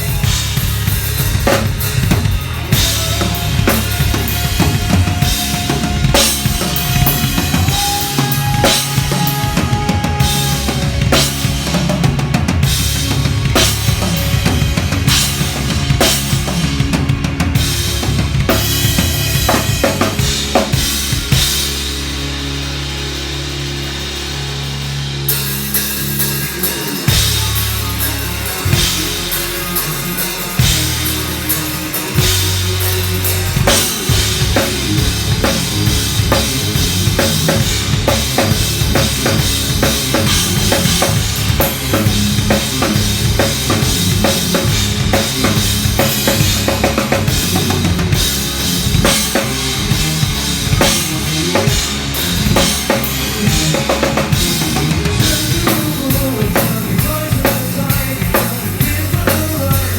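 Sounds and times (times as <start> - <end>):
drum kit playing: 0.0 - 59.9
low bass notes: 0.0 - 59.9.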